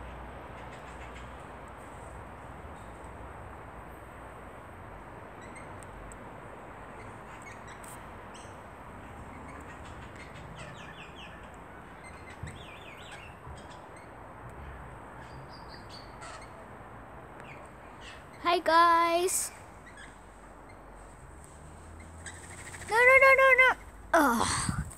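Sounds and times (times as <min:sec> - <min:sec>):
steady outdoor hiss: 0:00.0 - 0:24.9.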